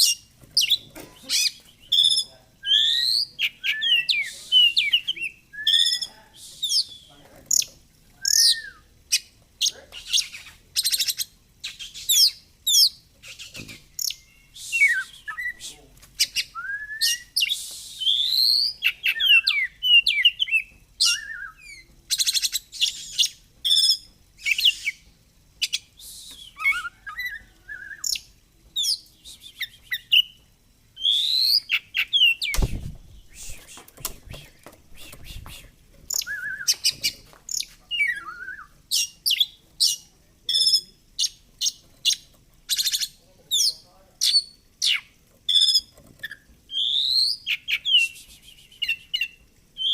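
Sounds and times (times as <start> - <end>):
bird singing varied song: 0.0 - 49.9.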